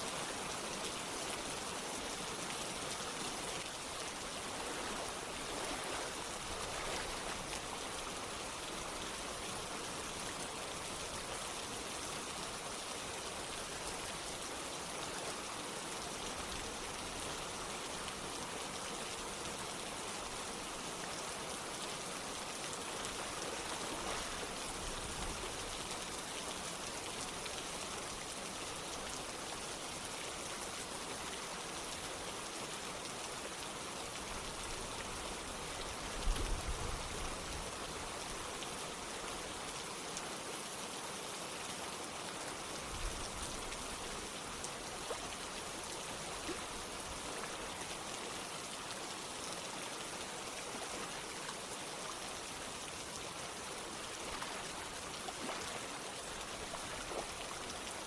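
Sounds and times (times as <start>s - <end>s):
flowing water: 0.0s - 58.0s
steady rain falling: 0.0s - 58.0s.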